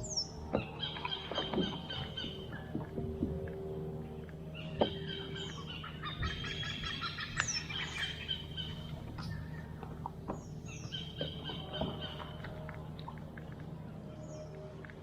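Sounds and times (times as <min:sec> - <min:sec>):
birds calling and chirping: 0:00.0 - 0:14.9
steady low rumble: 0:00.0 - 0:15.0.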